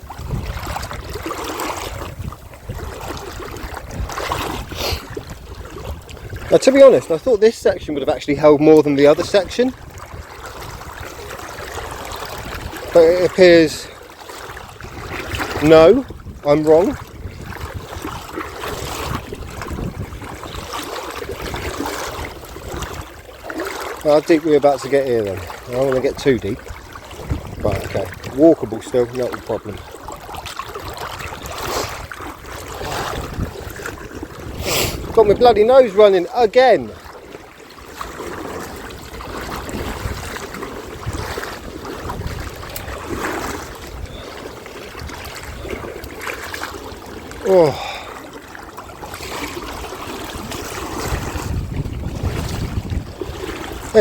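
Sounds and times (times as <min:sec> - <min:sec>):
water splashing around wading legs: 0:00.0 - 0:54.0.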